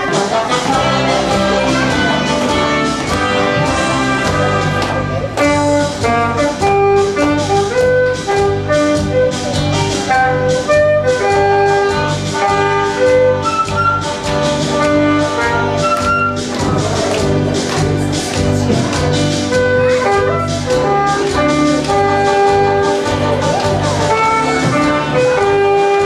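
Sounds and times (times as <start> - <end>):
instrumental march music: 0.0 - 26.0.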